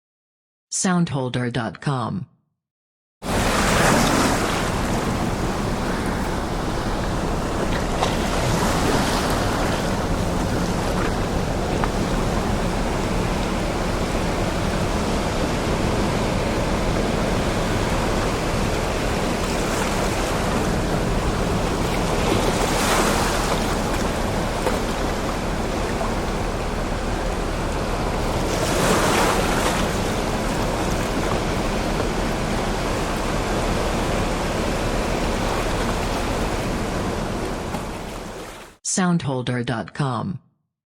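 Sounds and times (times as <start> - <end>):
big waves crashing and splashing: 3.2 - 38.8
surf washing on rocks: 3.3 - 38.8.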